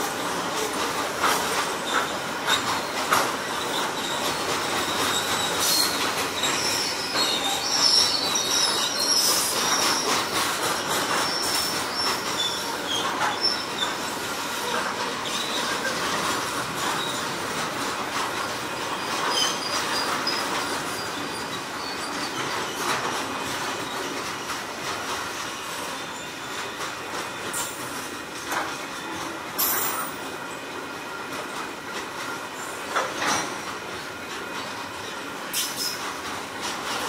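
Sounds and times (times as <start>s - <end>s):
train wheels clacking over rail joints: 0.0s - 37.0s.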